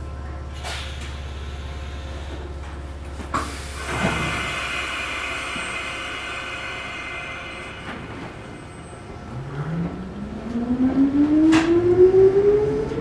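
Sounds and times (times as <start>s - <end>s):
train humming: 0.0s - 13.0s.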